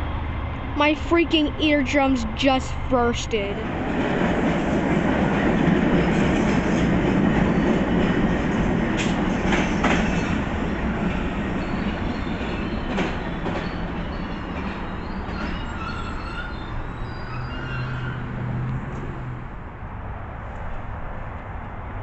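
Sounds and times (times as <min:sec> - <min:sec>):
train wheels rumbling on rails: 0:00.0 - 0:19.3.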